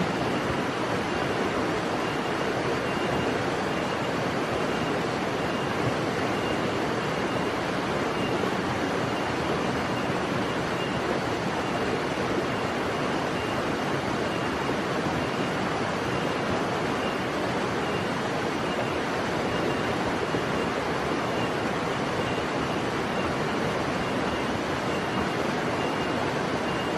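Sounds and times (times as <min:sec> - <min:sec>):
steady rushing outdoor noise: 0:00.0 - 0:26.9.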